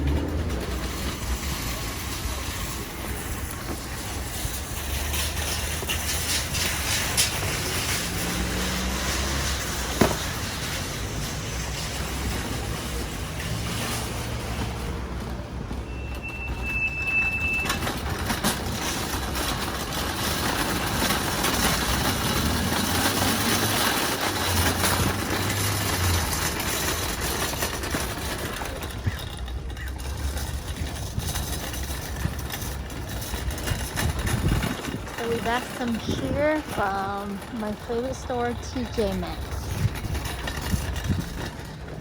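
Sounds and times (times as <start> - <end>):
moving vehicle rushing and humming: 0.0 - 42.0.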